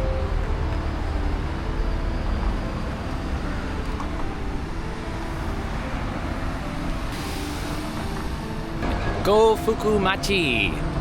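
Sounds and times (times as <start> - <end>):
road vehicles rumbling past: 0.0 - 10.0.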